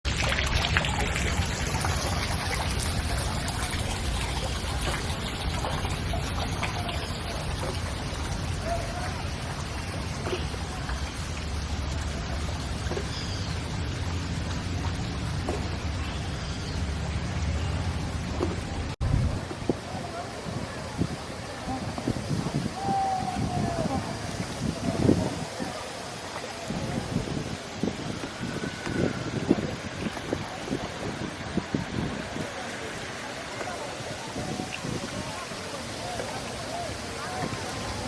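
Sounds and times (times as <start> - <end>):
steady hiss of water: 0.1 - 38.0.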